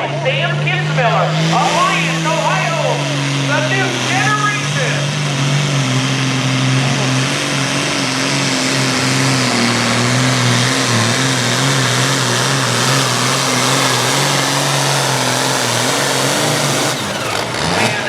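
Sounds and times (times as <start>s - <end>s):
diesel tractor engine at full throttle: 0.0s - 18.0s.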